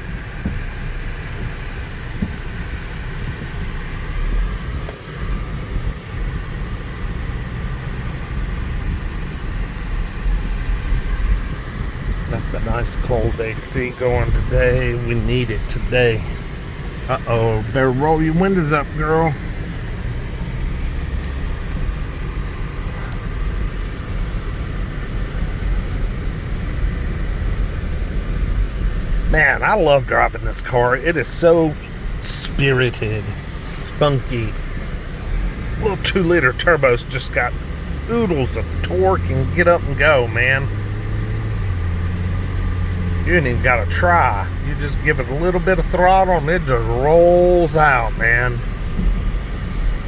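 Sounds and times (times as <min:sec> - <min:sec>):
car engine and road rumble: 0:00.0 - 0:50.0.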